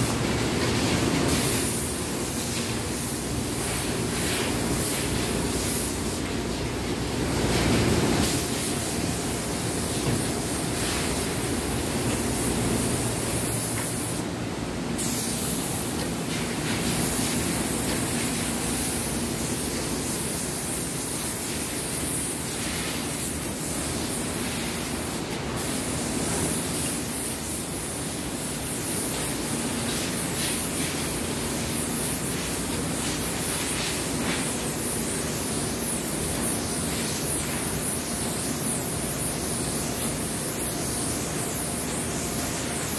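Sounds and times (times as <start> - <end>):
paint spray gun hissing: 1.2 - 6.3, 8.2 - 14.3, 15.0 - 42.9.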